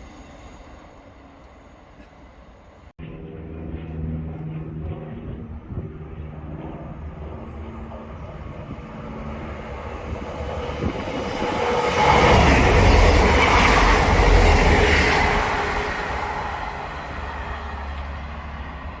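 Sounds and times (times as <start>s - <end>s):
diesel train engine hum: 0.0s - 19.0s.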